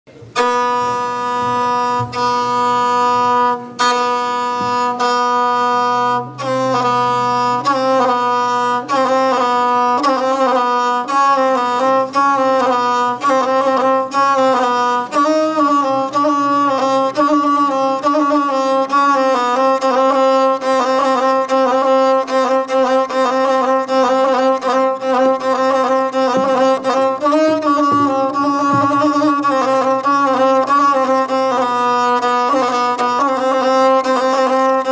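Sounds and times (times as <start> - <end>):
bowed folk fiddle playing: 0.1 - 34.9.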